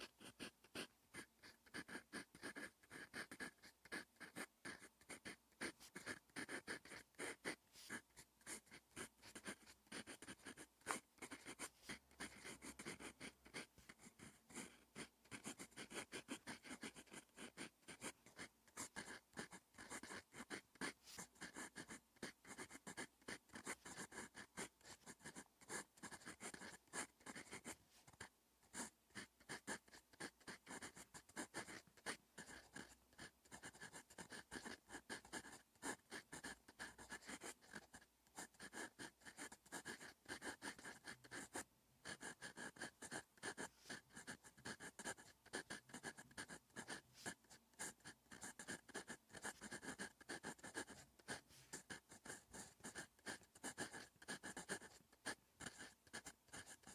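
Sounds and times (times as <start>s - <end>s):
pen nib scratching on paper: 0.0s - 56.9s.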